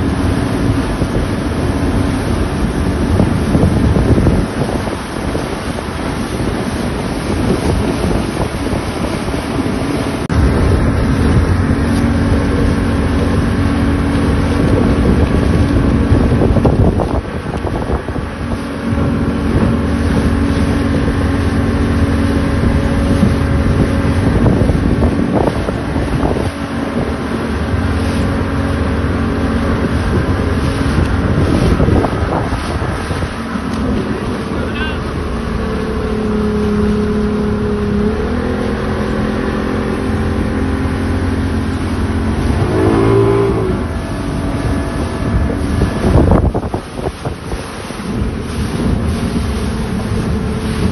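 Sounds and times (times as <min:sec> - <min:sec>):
outboard motor running: 0:00.0 - 0:50.9
rush of boat wake: 0:00.0 - 0:50.9
wind buffeting microphone: 0:00.0 - 0:50.9.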